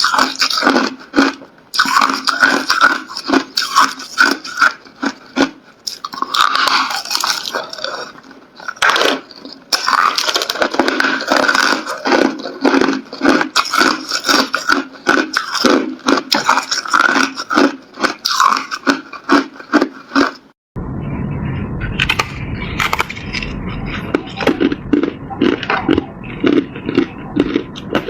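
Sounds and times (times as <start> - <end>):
ice being chewed: 0.0 - 20.6, 22.8 - 28.0.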